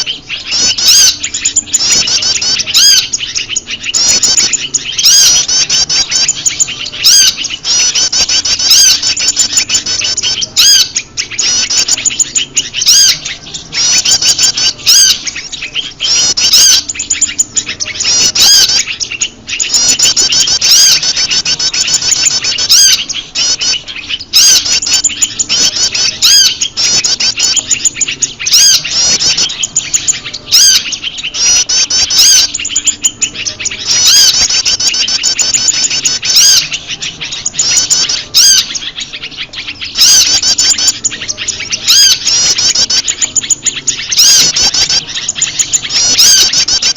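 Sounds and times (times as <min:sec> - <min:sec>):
small birds chirping and trilling: 0:00.0 - 0:46.9.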